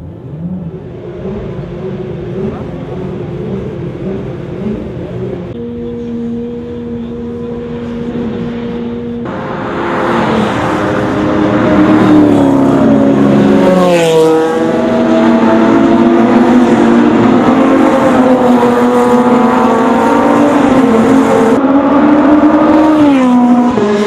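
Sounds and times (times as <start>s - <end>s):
race car engines: 0.0s - 24.0s
race car passing close: 0.8s - 24.0s.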